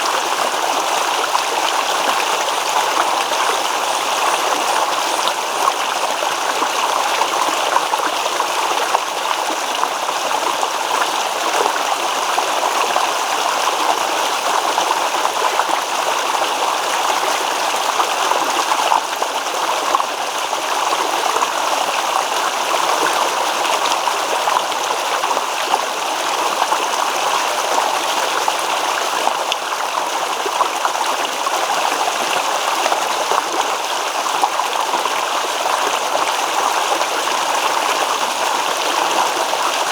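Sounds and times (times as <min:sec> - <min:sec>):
stream rippling over stones: 0:00.0 - 0:39.9.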